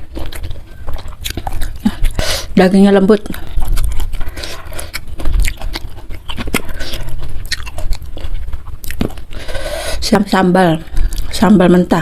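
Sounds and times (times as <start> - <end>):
chewing food: 0.0 - 11.8.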